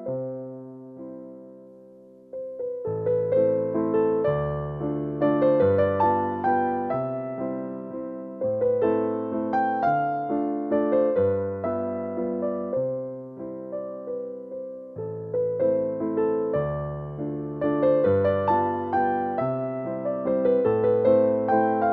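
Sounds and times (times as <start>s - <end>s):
gentle piano melody: 0.0s - 21.9s.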